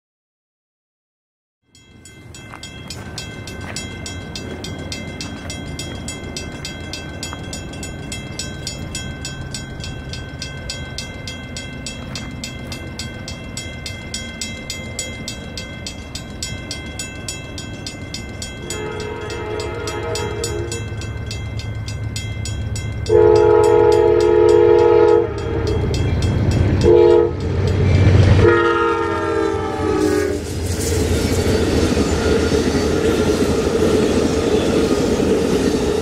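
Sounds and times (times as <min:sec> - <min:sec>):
steady high tones: 0:01.7 - 0:36.0
train rumble: 0:01.8 - 0:36.0.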